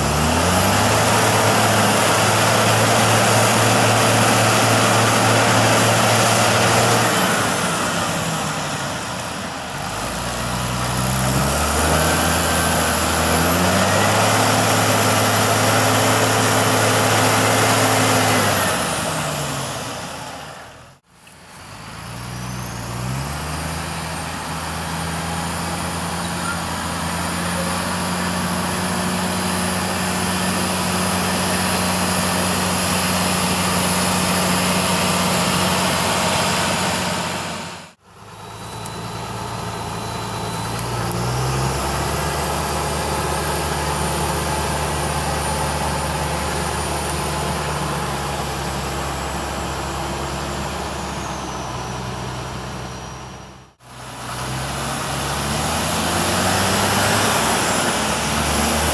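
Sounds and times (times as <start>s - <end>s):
tractor engines under load: 0.0s - 58.9s.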